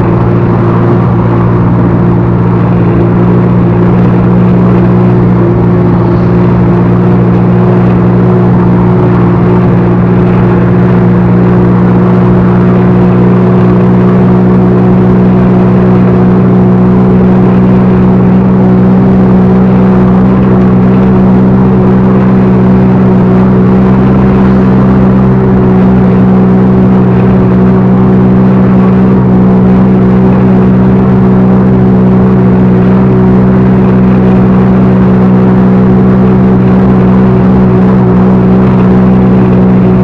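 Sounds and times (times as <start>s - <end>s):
backhoe diesel engine running: 0.0s - 40.0s.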